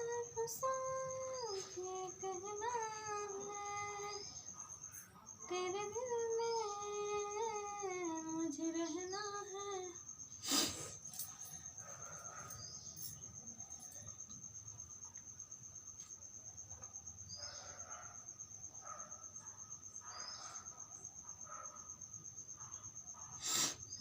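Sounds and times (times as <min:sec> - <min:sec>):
insect trilling: 0:00.0 - 0:14.4, 0:18.7 - 0:24.0.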